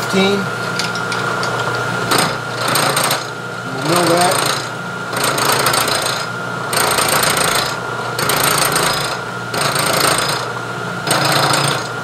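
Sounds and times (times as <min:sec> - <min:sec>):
end mill cutting metal: 0:00.0 - 0:12.0.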